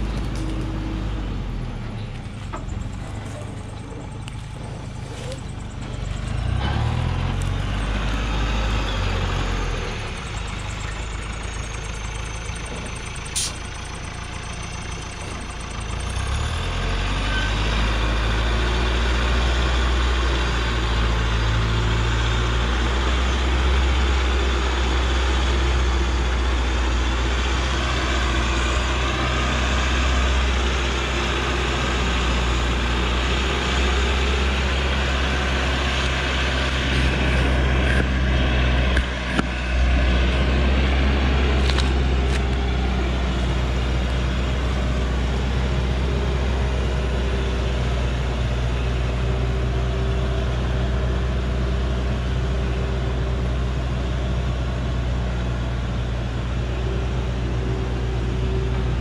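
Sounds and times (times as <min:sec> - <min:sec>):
truck engine running low: 0:00.0 - 0:59.0.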